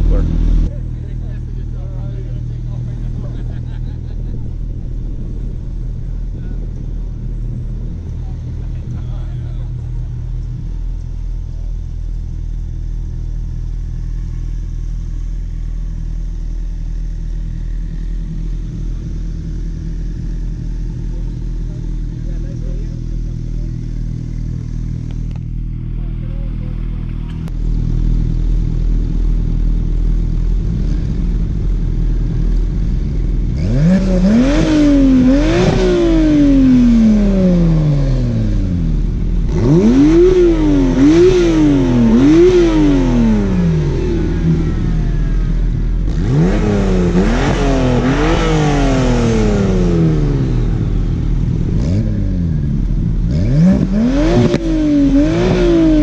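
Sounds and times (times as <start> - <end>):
car engines idling and revving: 0.0 - 56.0.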